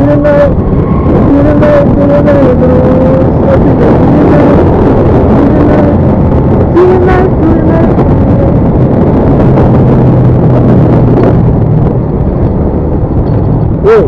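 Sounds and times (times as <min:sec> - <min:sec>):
steady hum: 0:00.0 - 0:14.0
wind buffeting microphone: 0:00.0 - 0:14.0.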